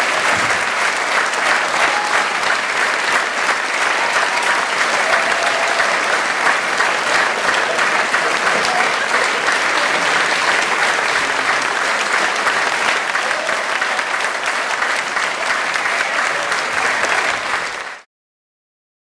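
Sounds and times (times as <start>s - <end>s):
audience applauding: 0.0s - 18.1s.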